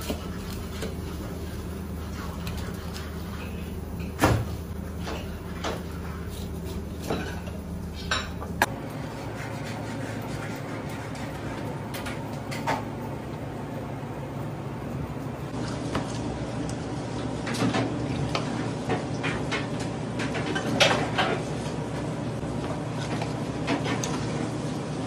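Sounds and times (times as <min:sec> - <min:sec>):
low kitchen hum: 0:00.0 - 0:25.0.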